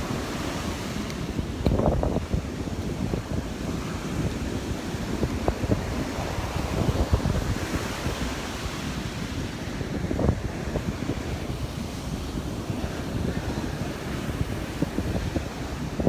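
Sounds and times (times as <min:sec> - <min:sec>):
ocean surf on beach: 0:00.0 - 0:16.0
wind buffeting microphone: 0:00.0 - 0:16.0.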